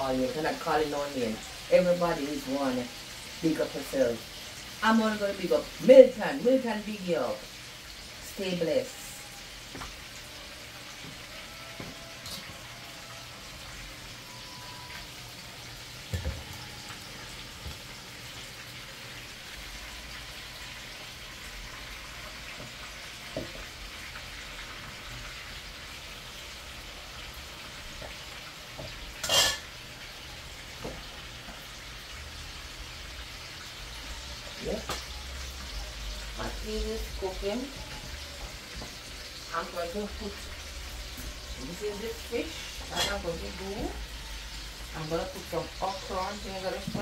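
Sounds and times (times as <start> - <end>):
chicken sizzling in oil: 0.0 - 47.0.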